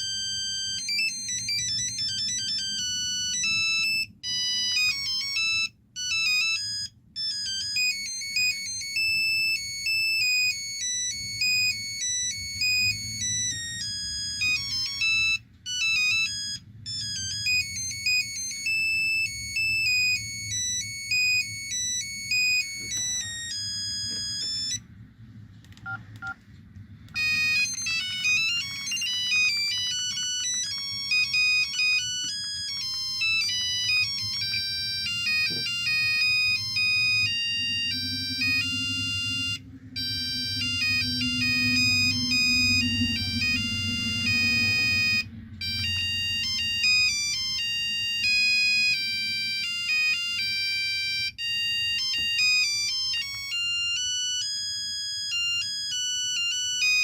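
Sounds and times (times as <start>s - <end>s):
electronic phone ringtones: 0.0s - 24.8s, 25.8s - 26.4s, 27.1s - 57.0s.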